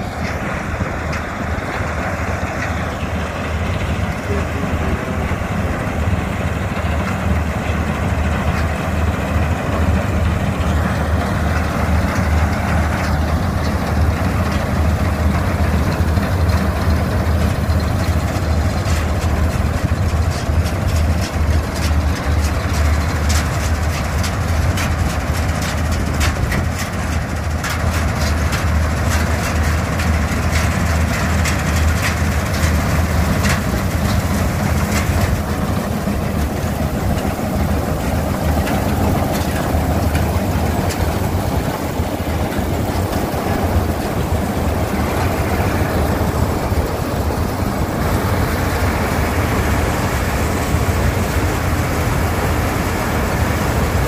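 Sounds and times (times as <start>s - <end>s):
diesel engine humming: 0.0s - 54.0s
rapid irregular clatter: 0.0s - 54.0s.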